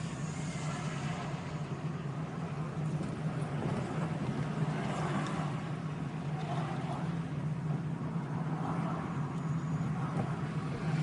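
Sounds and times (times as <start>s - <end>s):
car engine hum: 0.0s - 11.0s
road and tyre noise: 0.0s - 11.0s.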